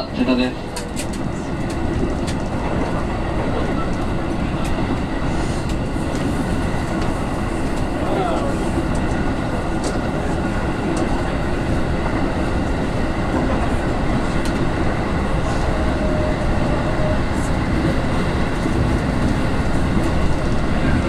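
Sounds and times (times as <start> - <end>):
rumble of wheels on rails: 0.0 - 21.0.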